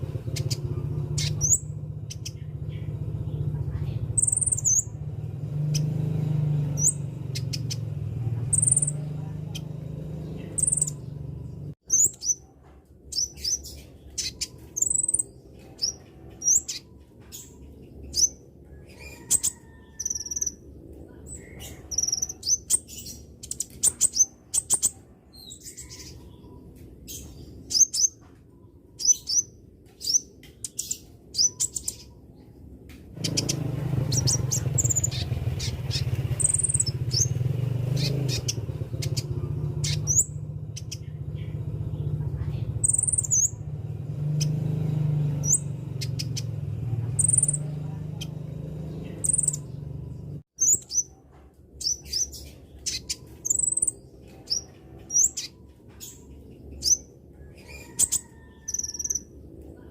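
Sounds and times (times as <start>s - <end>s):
bird chirping calls: 0.0s - 59.9s
low steady rumble: 0.0s - 59.9s.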